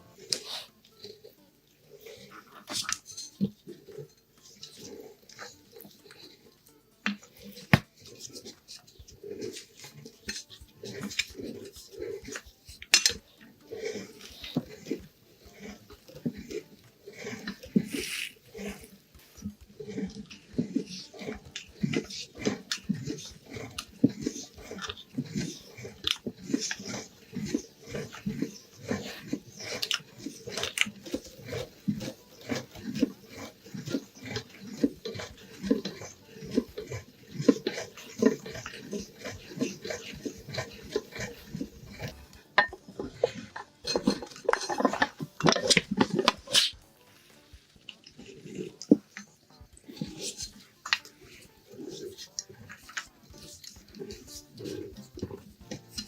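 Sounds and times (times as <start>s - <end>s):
meat grinder clicking and squelching: 0.0s - 56.0s.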